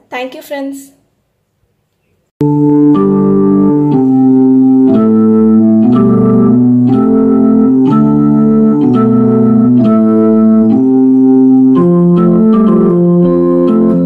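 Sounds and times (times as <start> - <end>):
sustained keyboard chords: 2.4 - 14.0.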